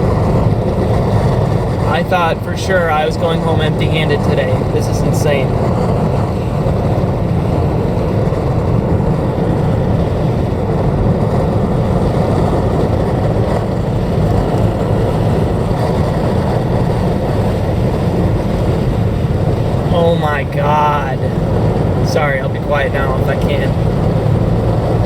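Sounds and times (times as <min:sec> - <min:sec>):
car interior driving rumble: 0:00.0 - 0:25.0.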